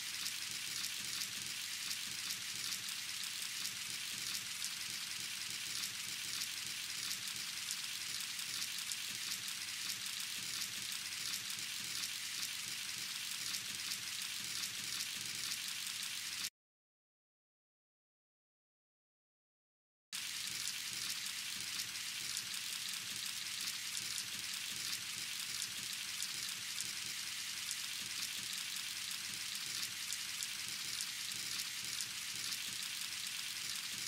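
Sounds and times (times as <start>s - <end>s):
steady hissy rain: 0.0s - 16.5s, 20.2s - 34.0s.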